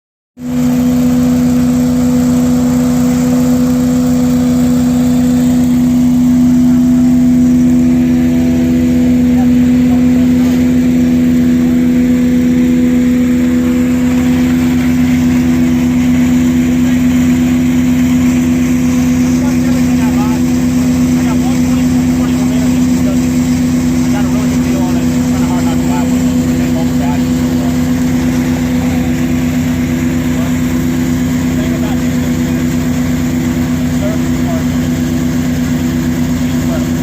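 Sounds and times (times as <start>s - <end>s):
excavator machine drone: 0.4s - 37.0s.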